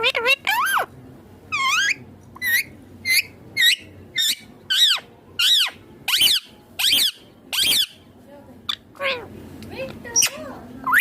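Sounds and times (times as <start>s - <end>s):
parakeet calling: 0.0s - 0.9s, 1.5s - 8.1s, 8.7s - 9.3s, 10.1s - 11.0s.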